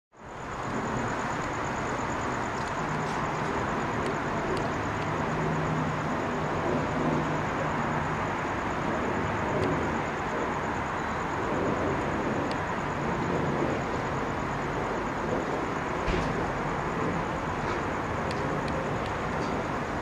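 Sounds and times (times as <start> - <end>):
distant traffic hum: 0.2 - 20.0.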